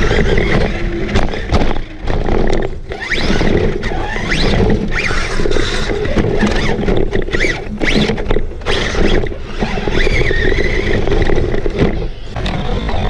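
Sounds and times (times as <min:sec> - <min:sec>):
electric motor whining: 0:00.0 - 0:13.0
rumble of tyres on dirt: 0:00.0 - 0:13.0
wind on microphone: 0:00.0 - 0:13.0.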